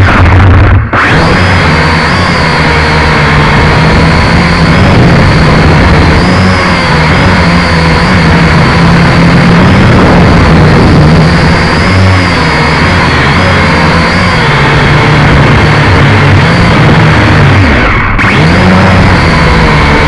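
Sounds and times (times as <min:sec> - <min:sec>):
heavy low rumble: 0:00.0 - 0:18.3
drone motors whining: 0:00.0 - 0:20.0.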